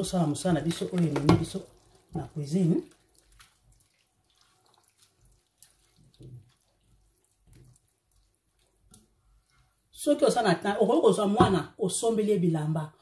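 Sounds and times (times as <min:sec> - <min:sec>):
wooden spoon stirring thick stew: 0:00.0 - 0:10.6.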